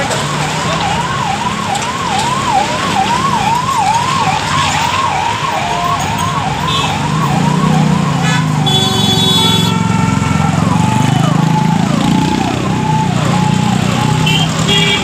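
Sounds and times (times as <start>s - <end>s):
vehicle siren yelping: 0.0s - 14.7s
passing vehicle engines hum: 0.0s - 15.0s.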